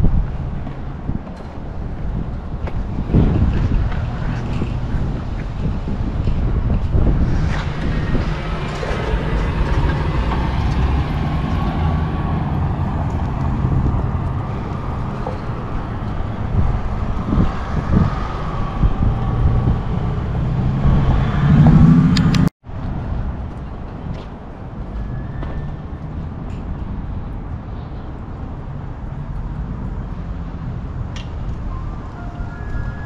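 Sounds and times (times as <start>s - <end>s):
low traffic rumble: 0.0s - 33.0s
motor vehicles passing: 0.0s - 33.0s.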